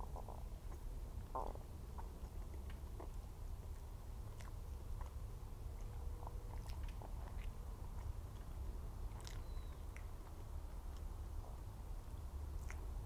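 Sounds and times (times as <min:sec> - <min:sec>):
chewing and biting: 0:00.0 - 0:13.0
mouth clicks and smacks: 0:00.0 - 0:13.0.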